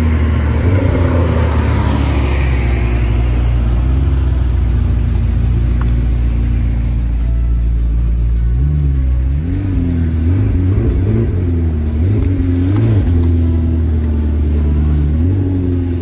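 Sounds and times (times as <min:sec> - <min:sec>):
sports car engine at low revs: 0:00.0 - 0:16.0.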